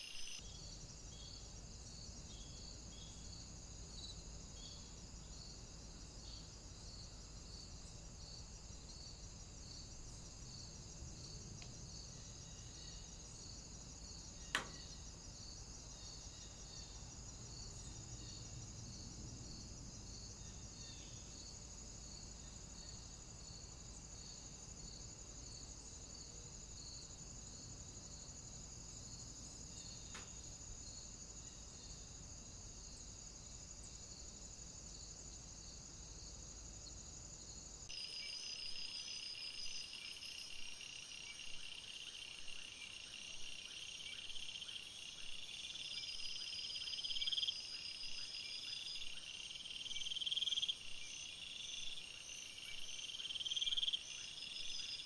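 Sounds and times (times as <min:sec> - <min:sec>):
faint insect chirps: 0:00.0 - 0:55.0
insect trill: 0:00.0 - 0:55.0
pulsing night insect calls: 0:00.0 - 0:55.0.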